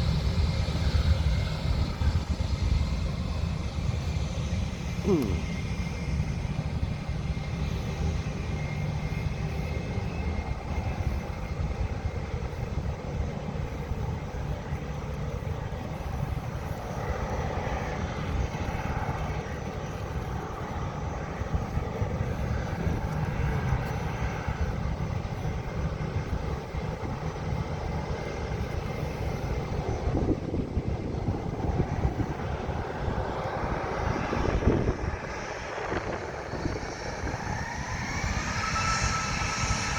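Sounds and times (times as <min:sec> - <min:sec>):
airplane engines at takeoff: 0:00.0 - 0:39.9.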